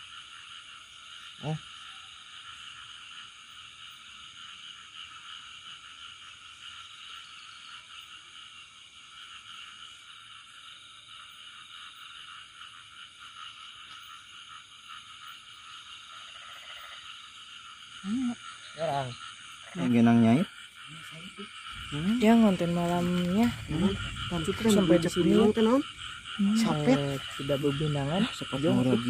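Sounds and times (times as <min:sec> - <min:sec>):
frogs calling: 0:00.0 - 0:29.0.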